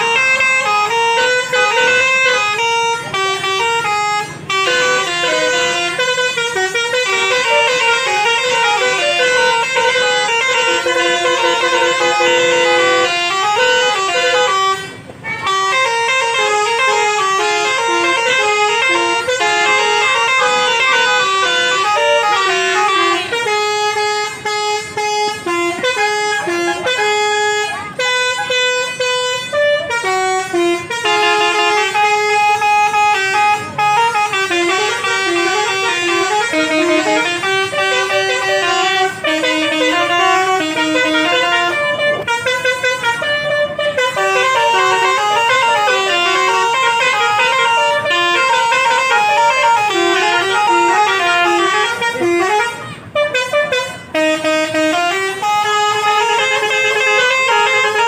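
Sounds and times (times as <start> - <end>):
musical air horn melody: 0.0 - 58.0.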